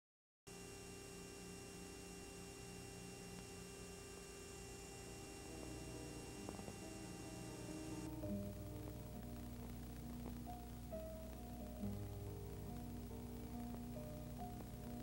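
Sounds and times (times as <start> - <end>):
faint electrical hum: 0.5 - 15.0
thin steady tones: 0.5 - 15.0.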